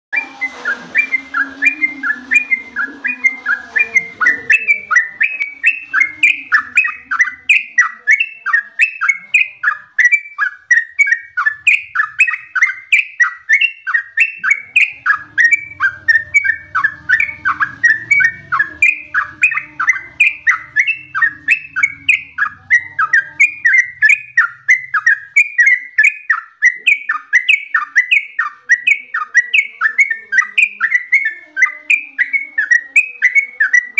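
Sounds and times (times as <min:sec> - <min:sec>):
bird singing repeated notes: 0:00.1 - 0:33.9.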